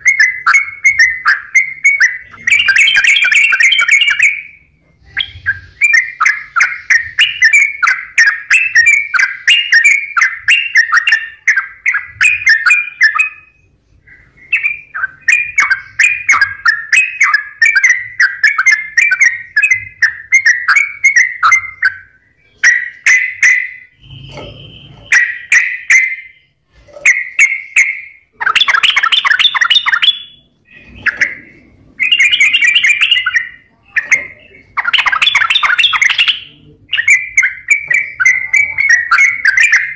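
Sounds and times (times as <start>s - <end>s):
bird scratchy chatters: 0.0s - 39.9s.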